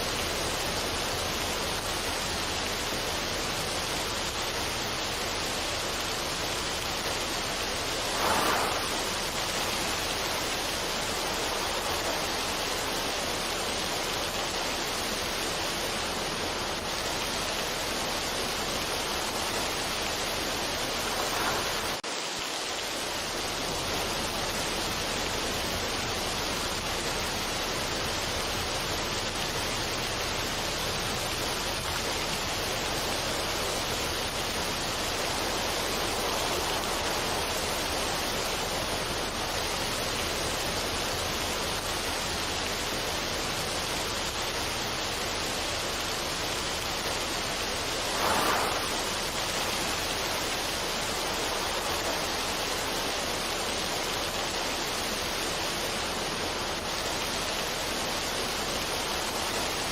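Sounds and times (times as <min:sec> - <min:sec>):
steady rushing ambience noise: 0:00.0 - 0:59.8.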